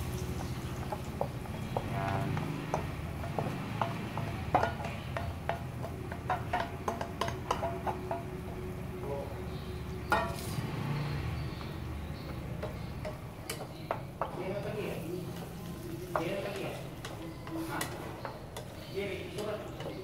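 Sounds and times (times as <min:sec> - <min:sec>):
utensil clinking on bowl and pan: 0:00.0 - 0:10.6, 0:11.3 - 0:20.0
wooden spatula stirring in a pan: 0:00.0 - 0:20.0.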